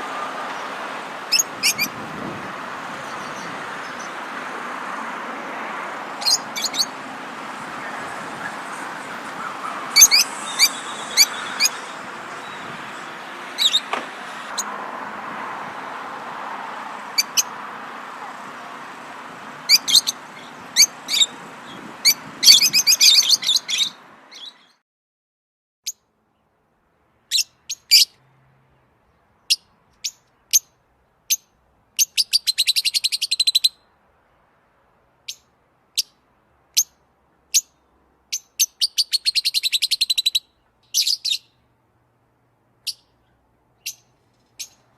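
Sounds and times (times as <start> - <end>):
songbirds chirping and trilling: 0.0 - 24.8, 25.9 - 44.9.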